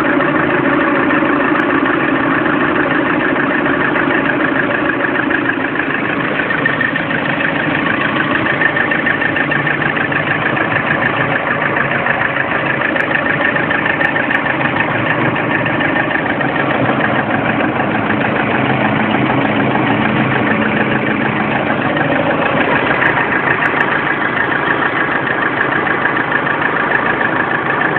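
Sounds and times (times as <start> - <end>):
car engine idling: 0.0 - 27.9
rhythmic engine knock: 0.0 - 27.9.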